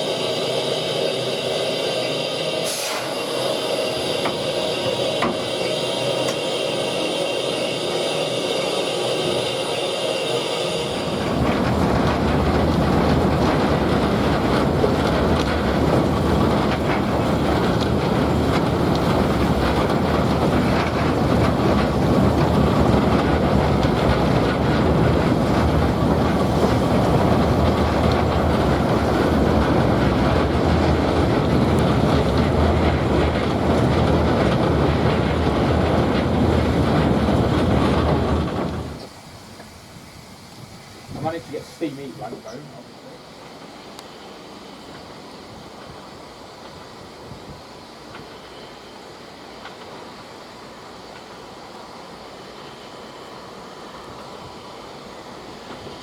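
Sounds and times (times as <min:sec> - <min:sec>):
train running on railway: 0:00.0 - 0:56.0.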